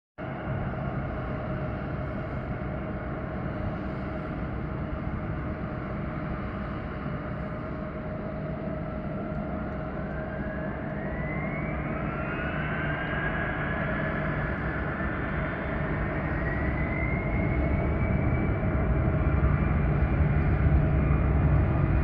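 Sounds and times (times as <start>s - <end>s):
jet engines spooling up: 0.4s - 22.0s.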